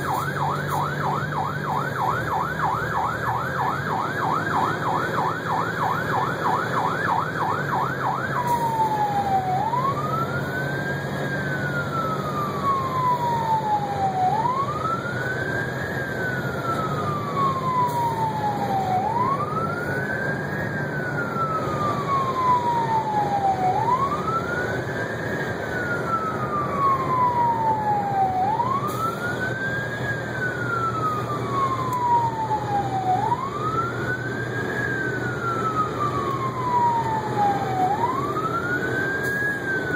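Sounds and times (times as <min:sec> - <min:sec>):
siren yelping and wailing: 0:00.0 - 0:39.9
truck engine humming: 0:00.0 - 0:39.9.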